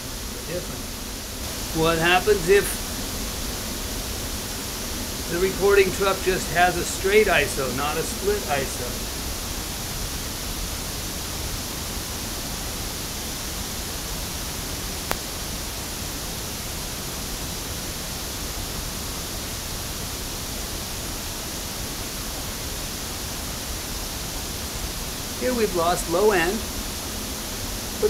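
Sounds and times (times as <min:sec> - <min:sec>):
pink noise hissing from loudspeaker: 0:00.0 - 0:28.0.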